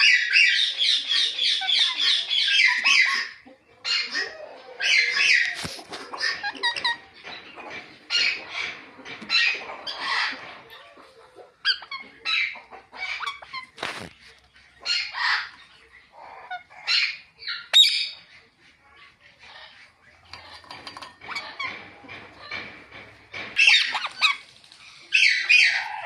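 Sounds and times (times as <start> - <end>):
parakeet chirping and squawking: 0.0 - 26.0.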